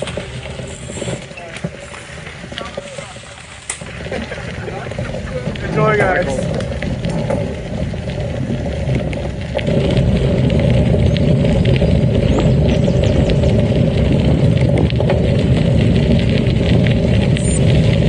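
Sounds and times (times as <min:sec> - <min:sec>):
bike clicks and rattles: 0:00.0 - 0:18.0
bike tyres crunching on gravel: 0:00.0 - 0:18.0.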